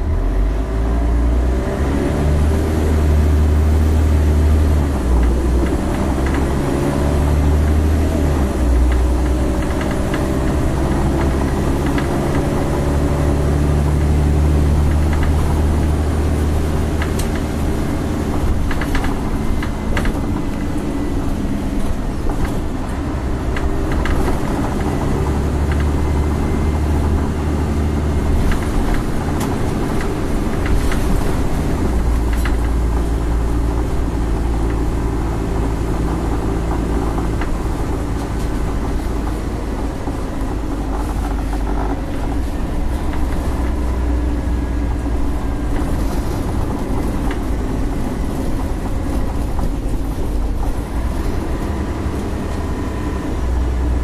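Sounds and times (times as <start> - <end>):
diesel bus engine: 0.0 - 54.0
road noise: 0.0 - 54.0
bus body rattles and knocks: 2.3 - 54.0.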